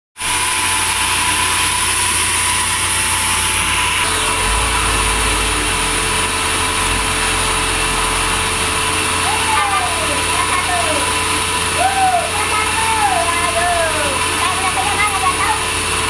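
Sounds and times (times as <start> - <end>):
band sawmill running: 0.2 - 16.0.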